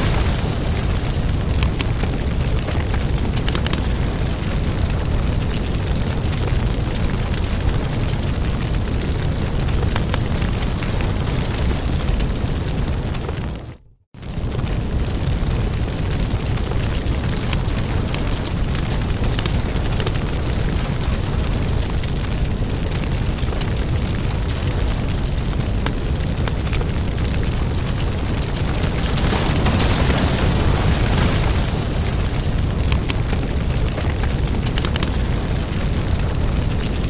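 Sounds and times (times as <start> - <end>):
low rumble: 0.0 - 37.0
wood fire crackling: 0.0 - 37.0.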